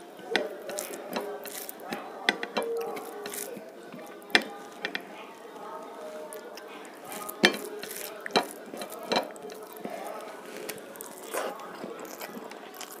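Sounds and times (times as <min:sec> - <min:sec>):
fingers mixing rice on plate: 0:00.0 - 0:13.0
person eating: 0:00.0 - 0:13.0.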